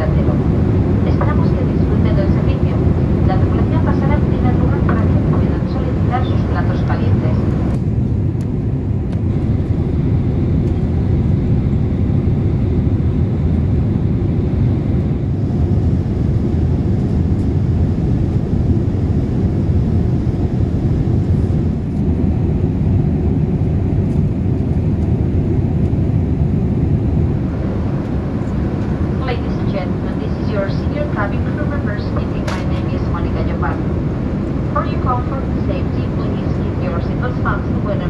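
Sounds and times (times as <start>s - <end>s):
airplane cabin rumble: 0.0s - 38.0s.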